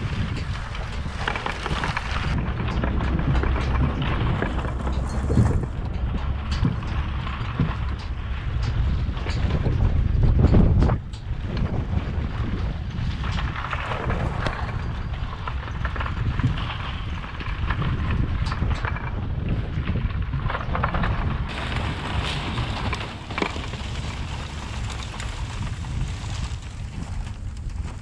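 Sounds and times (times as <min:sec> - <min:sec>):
drag harrow rattling over ground: 0:00.0 - 0:28.0
pickup truck engine rumble: 0:00.0 - 0:28.0.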